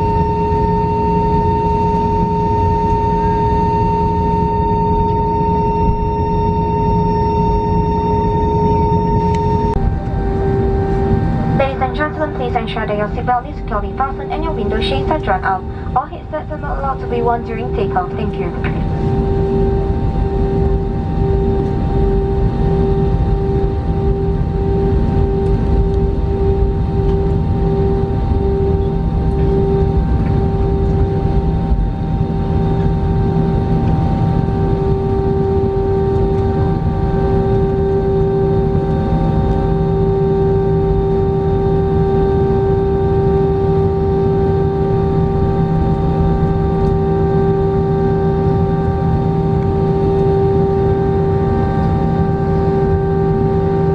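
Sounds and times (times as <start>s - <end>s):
jet engines droning in cabin: 0.0s - 53.9s.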